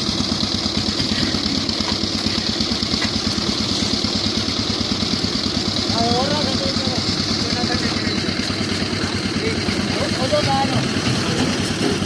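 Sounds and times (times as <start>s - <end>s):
concrete mixer engine running: 0.0s - 12.0s.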